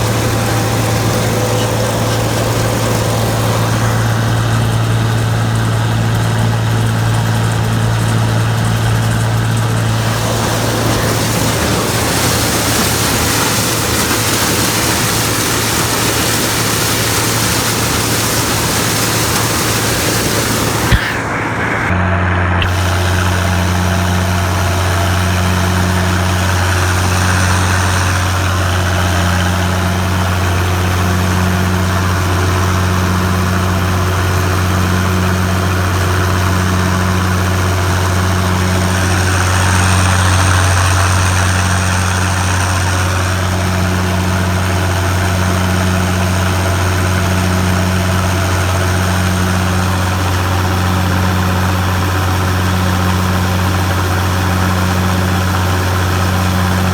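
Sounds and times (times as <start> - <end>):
machinery engine deep hum: 0.0 - 56.9
pulsing droning tone: 0.0 - 56.9.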